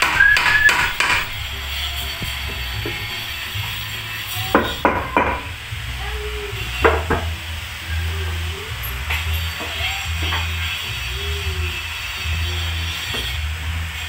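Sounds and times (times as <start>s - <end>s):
music with steady beat: 0.0s - 14.0s.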